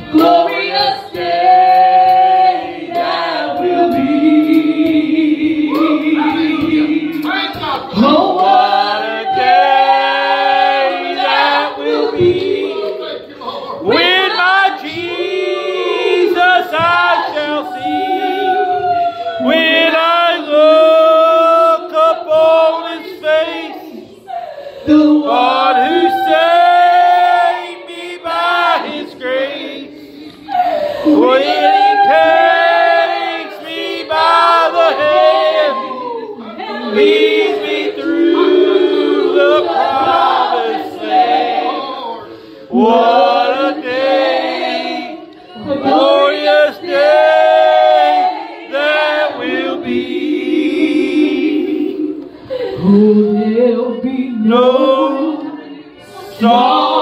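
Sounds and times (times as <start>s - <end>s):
voices singing: 0.0s - 57.0s.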